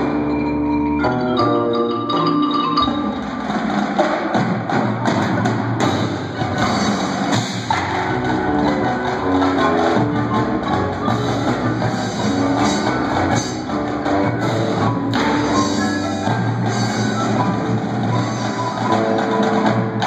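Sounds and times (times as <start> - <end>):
marimbas and vibraphones: 0.0 - 4.4, 5.2 - 20.0
marching drums: 2.8 - 20.0.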